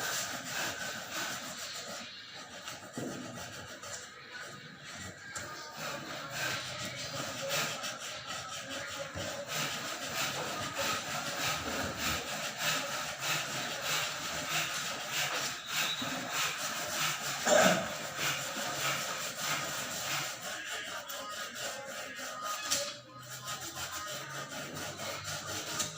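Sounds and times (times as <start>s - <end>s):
sandpaper rasping strokes: 0.0s - 25.9s.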